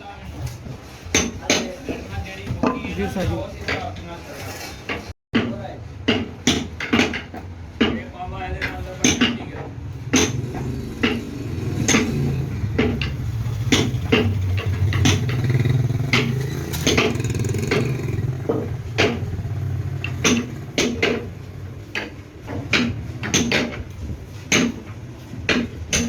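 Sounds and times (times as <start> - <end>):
metallic knocks and clanks: 4.9 - 26.0.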